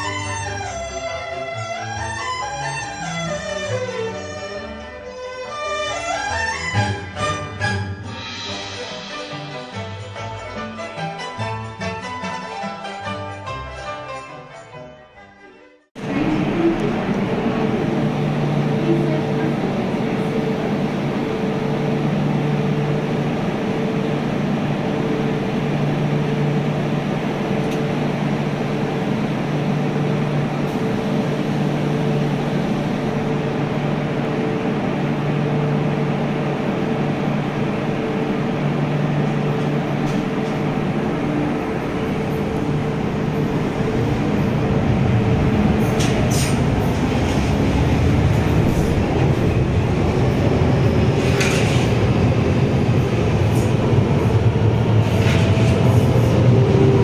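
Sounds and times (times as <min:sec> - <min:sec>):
train approaching platform: 0:00.0 - 0:57.0.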